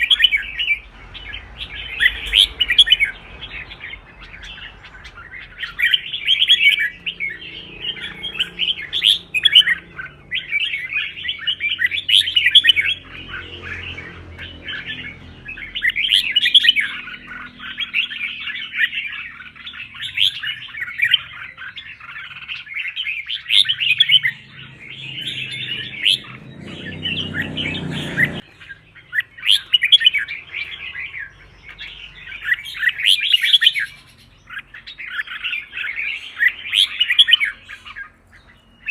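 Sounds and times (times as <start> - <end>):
bird singing rapid chattering song: 0.0 - 38.9.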